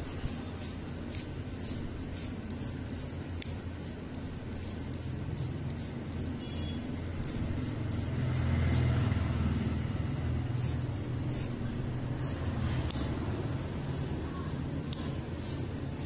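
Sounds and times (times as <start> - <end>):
blade scraping wire: 0.6 - 9.0, 10.5 - 14.1, 14.8 - 16.0.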